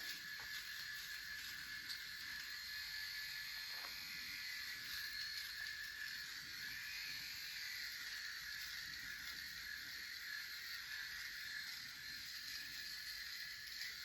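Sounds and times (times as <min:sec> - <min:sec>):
electric shaver buzzing: 0:00.0 - 0:14.0.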